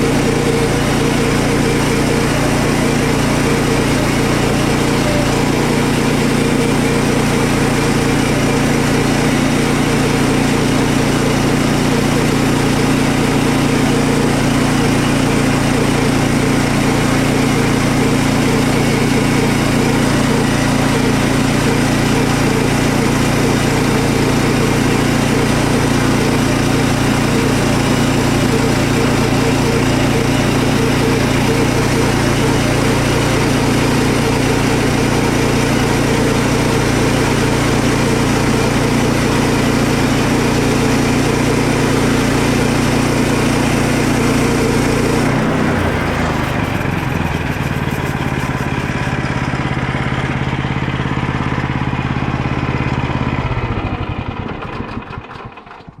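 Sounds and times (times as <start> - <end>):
sawmill engine running under load: 0.0 - 56.0.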